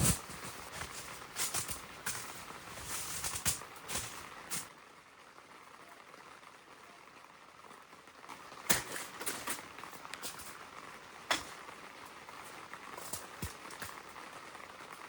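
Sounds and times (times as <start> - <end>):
rain pattering on tent fabric: 0.0 - 15.0.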